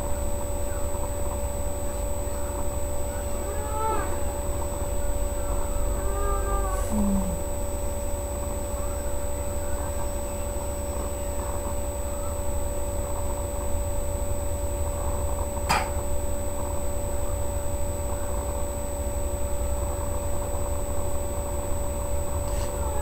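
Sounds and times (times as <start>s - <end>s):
low rumble with electrical hum: 0.0s - 23.0s.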